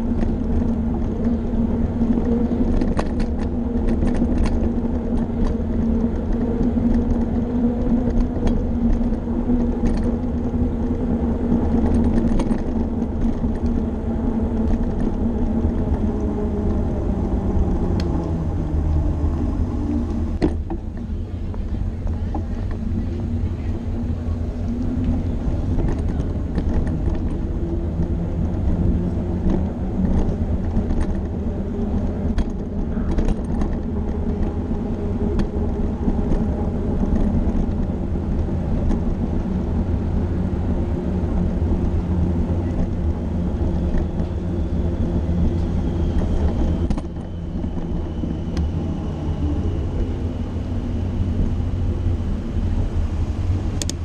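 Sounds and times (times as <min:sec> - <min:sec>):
car traffic: 0:00.0 - 0:54.0
wind and road noise rumble: 0:00.0 - 0:54.0.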